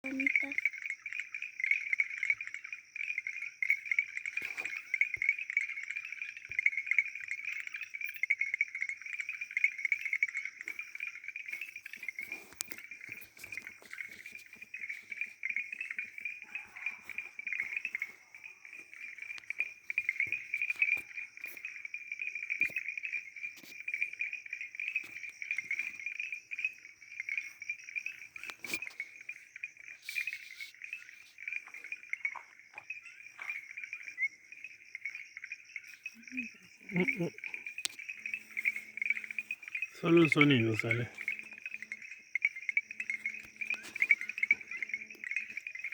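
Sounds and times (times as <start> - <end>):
frogs trilling in chorus: 0.0 - 45.9.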